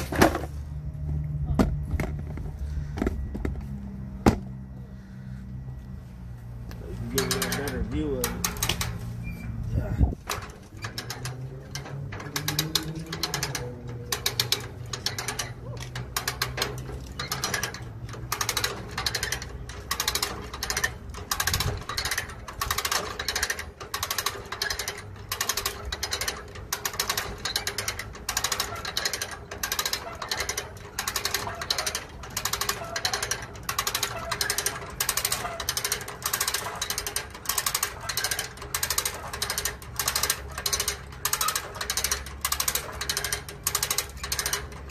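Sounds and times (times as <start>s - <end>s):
winch ratchet clicking: 7.1s - 9.0s, 10.3s - 44.9s.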